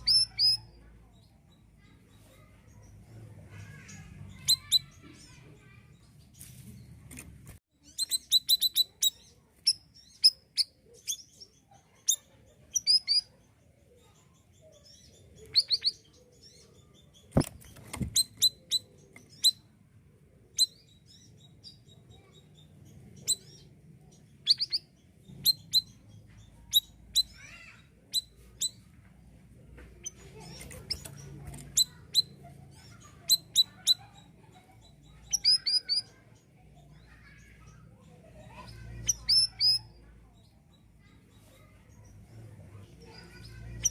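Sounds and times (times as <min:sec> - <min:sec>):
bird chirping: 0:00.0 - 0:43.9.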